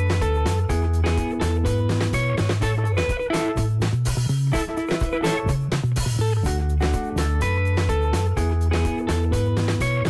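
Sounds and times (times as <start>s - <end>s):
bass notes: 0.0s - 10.0s
guitar: 0.0s - 10.0s
drum beat: 0.1s - 10.0s.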